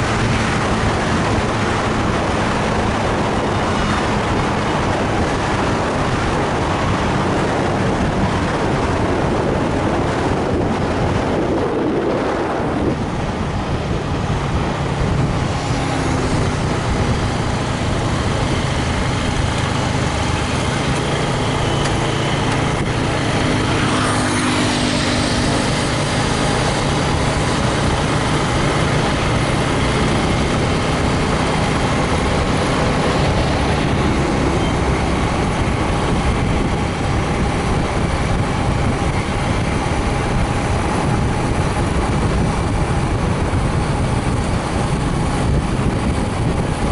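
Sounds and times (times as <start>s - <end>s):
road noise rushing: 0.0s - 46.9s
vehicle engine hum: 0.0s - 46.9s.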